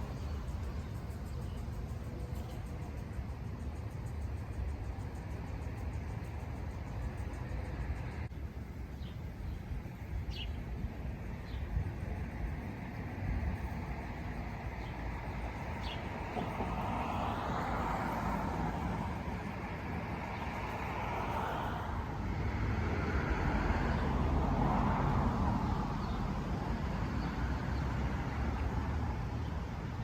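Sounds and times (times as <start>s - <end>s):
low traffic rumble: 0.0s - 30.0s
vehicles passing: 0.0s - 30.0s.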